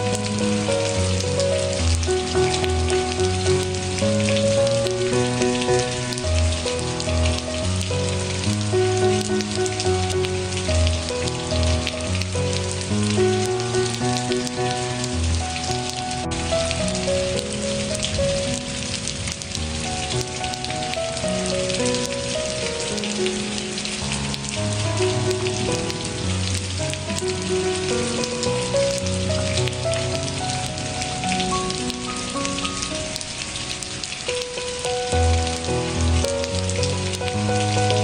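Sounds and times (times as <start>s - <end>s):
soft slow instrumental music: 0.0s - 38.0s
steady rain: 0.0s - 38.0s.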